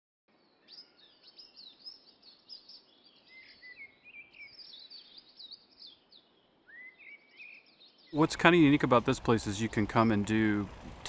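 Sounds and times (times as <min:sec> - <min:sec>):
faint outdoor hiss: 0:00.3 - 0:11.0
songbirds chirping and singing: 0:00.3 - 0:11.0.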